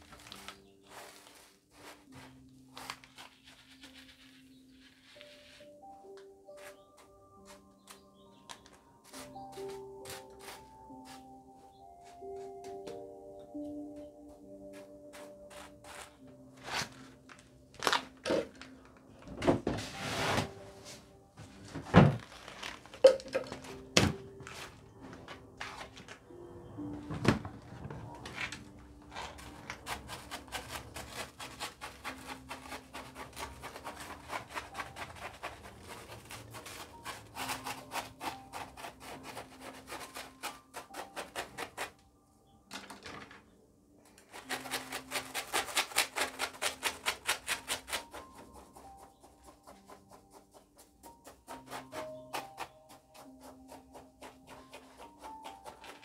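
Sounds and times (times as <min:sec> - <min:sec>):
soft background music: 0:00.0 - 0:56.0.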